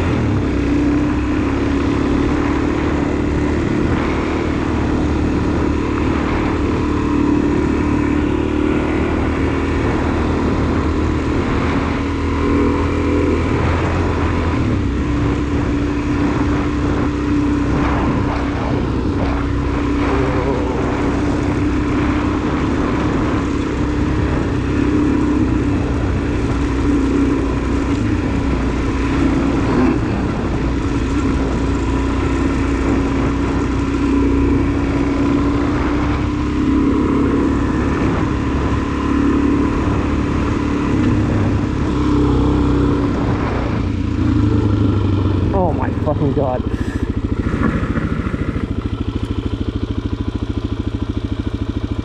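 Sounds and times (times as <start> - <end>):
motorcycle engine running: 0.0 - 52.0
wind and road noise: 0.0 - 52.0.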